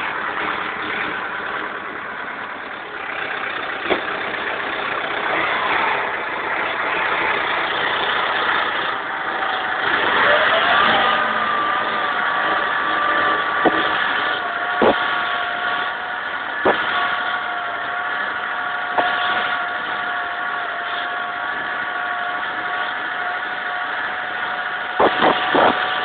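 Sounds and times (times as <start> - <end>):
constant whine: 0.0 - 26.0
tractor diesel engine running: 0.0 - 26.0.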